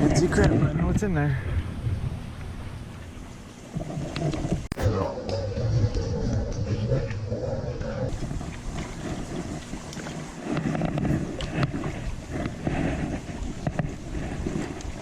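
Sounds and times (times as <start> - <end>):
creek water running: 0.0 - 15.0
wind buffeting microphone: 0.0 - 15.0.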